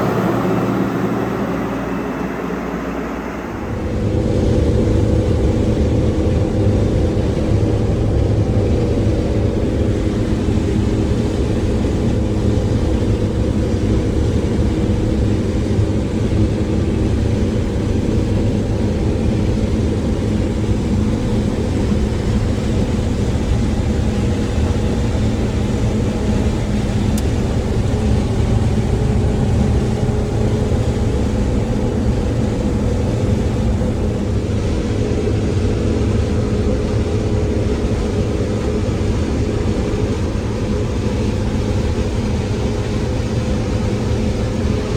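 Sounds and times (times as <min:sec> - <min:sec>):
farm machinery engine drone: 0:00.0 - 0:44.9.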